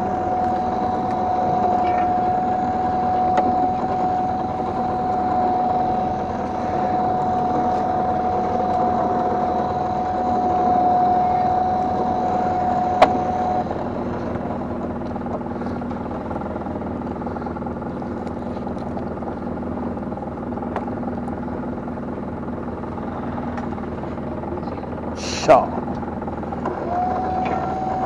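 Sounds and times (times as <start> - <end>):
constant whine: 0.0 - 28.0
machinery hum: 0.0 - 28.0.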